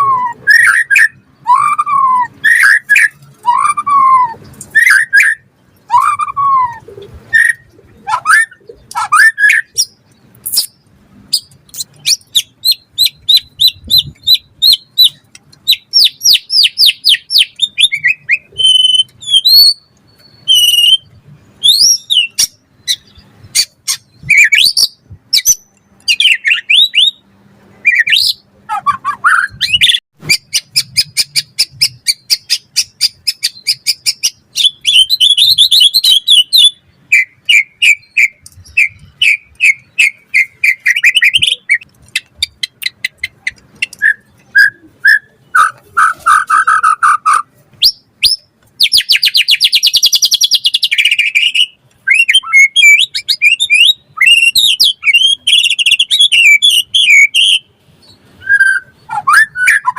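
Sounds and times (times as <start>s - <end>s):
bird singing trills and whistles: 0.0s - 27.2s, 27.8s - 59.9s.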